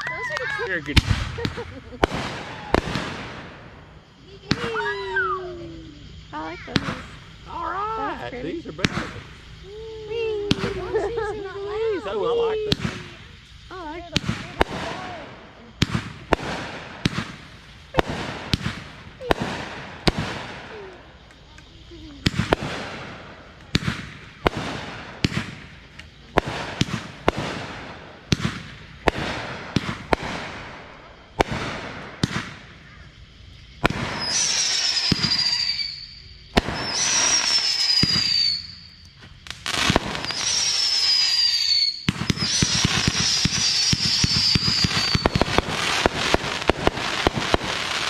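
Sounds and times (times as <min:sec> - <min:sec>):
fireworks bangs and cracks: 0:00.0 - 0:48.0
fireworks crackling: 0:00.0 - 0:48.0
fireworks falling whistles: 0:00.0 - 0:48.0.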